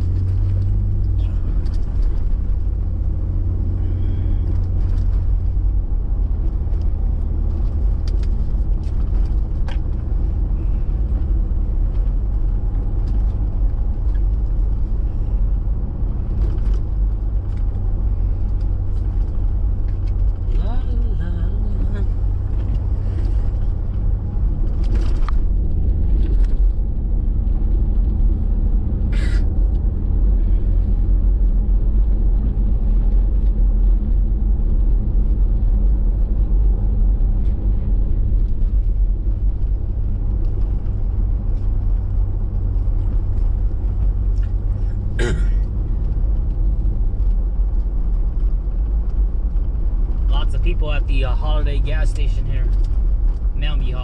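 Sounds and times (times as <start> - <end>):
vehicle interior road rumble: 0.0 - 54.0.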